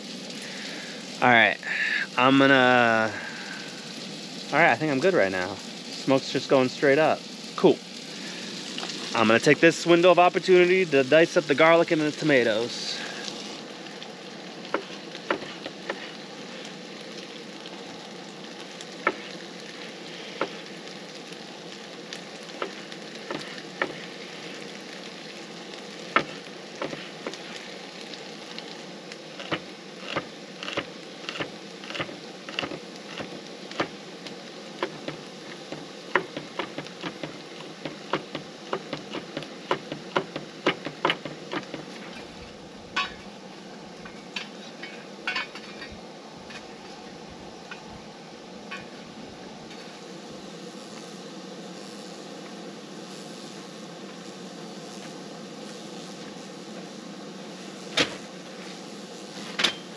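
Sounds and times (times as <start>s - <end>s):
steady sizzle: 0.0s - 59.9s.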